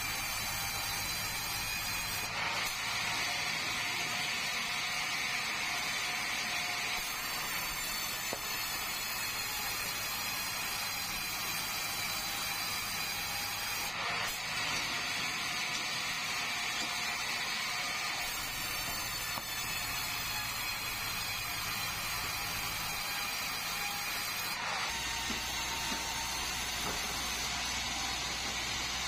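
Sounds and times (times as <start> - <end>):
band saw cutting wood: 0.0 - 29.0.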